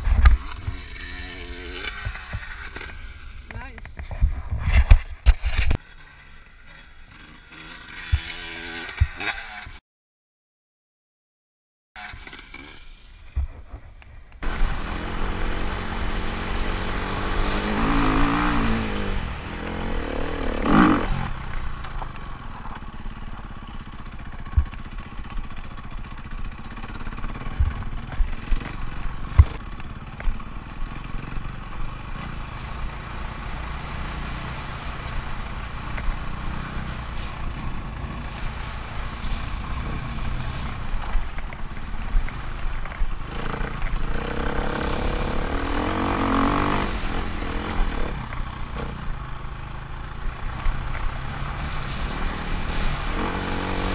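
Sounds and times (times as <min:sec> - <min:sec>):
dirt bike engine revving: 0:00.0 - 0:03.8, 0:05.6 - 0:09.8, 0:14.4 - 0:21.8, 0:22.6 - 0:53.9.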